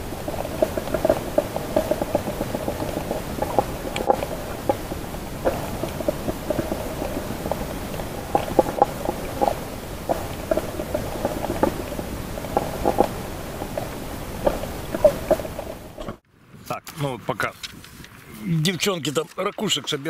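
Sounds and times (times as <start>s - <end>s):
irregular clicks and crackles: 0.0s - 16.2s
water moving underwater: 0.0s - 16.2s.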